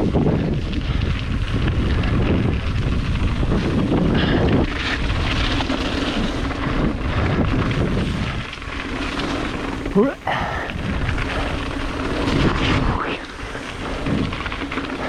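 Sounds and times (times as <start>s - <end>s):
bike tyre rumble: 0.0s - 15.0s
wind buffeting microphone: 0.0s - 15.0s.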